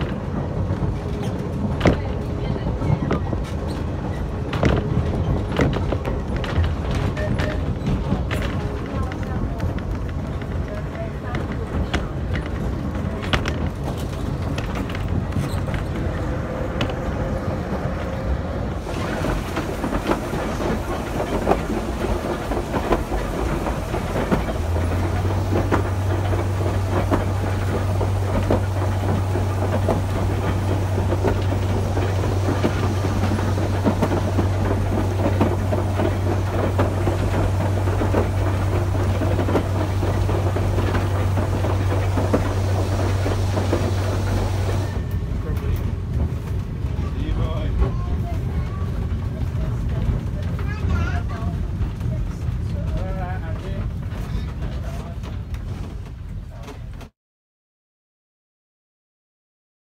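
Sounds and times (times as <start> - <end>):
tram running on track: 0.0 - 57.1
wheels clicking over rail joints: 0.0 - 57.1.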